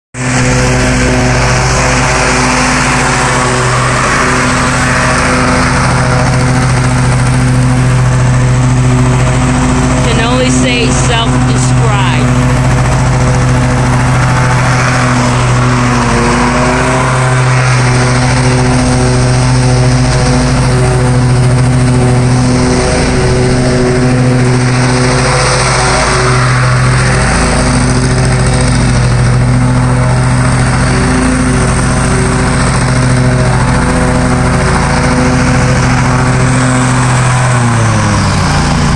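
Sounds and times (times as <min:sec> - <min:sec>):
lawn mower engine running: 0:00.2 - 0:38.9.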